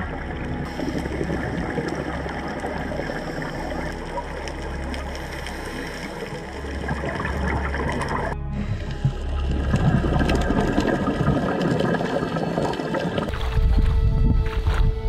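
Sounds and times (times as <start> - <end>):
underwater gurgling rush: 0.0 - 13.8.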